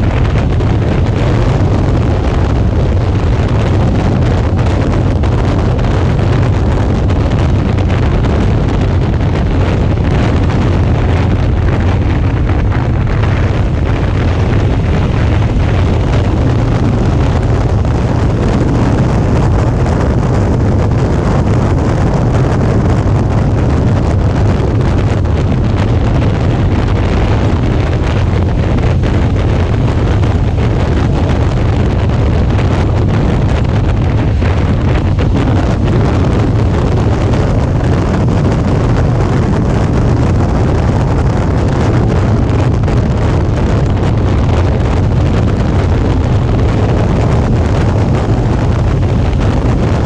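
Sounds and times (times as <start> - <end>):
motorcycle engine droning: 0.0 - 50.0
wind rushing over microphone: 0.0 - 50.0.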